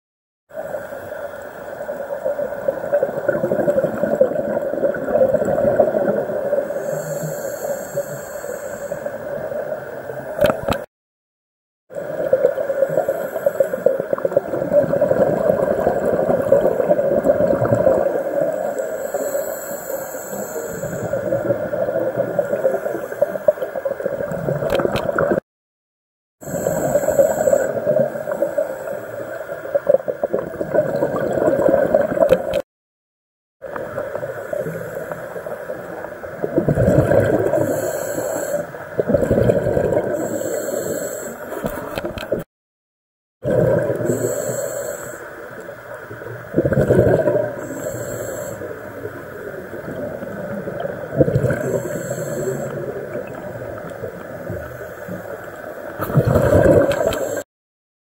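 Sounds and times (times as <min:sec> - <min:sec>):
diver breathing and bubbles: 0:00.5 - 0:10.9, 0:11.9 - 0:25.4, 0:26.4 - 0:32.6, 0:33.6 - 0:42.5, 0:43.4 - 0:57.5
underwater rushing and gurgling: 0:00.5 - 0:10.9, 0:11.9 - 0:25.4, 0:26.4 - 0:32.6, 0:33.6 - 0:42.5, 0:43.4 - 0:57.5.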